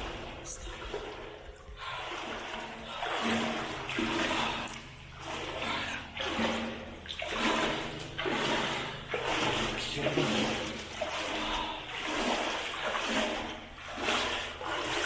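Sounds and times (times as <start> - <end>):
water sloshing from wading: 0.0 - 15.0.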